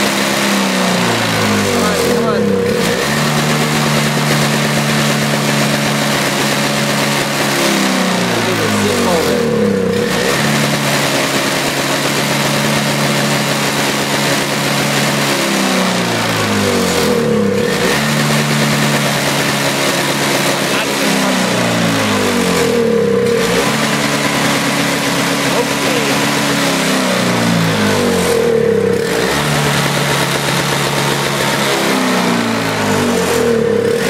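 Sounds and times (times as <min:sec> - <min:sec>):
two-stroke snowblower engine running: 0:00.0 - 0:34.0.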